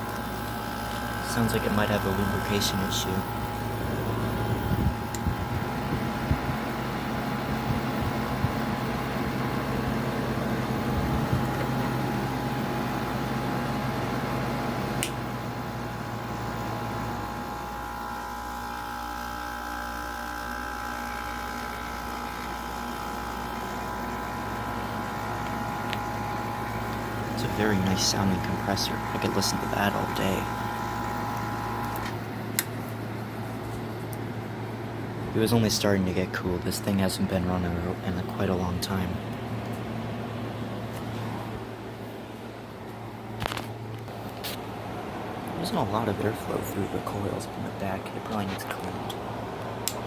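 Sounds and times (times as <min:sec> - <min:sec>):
air conditioner humming: 0:00.0 - 0:50.0.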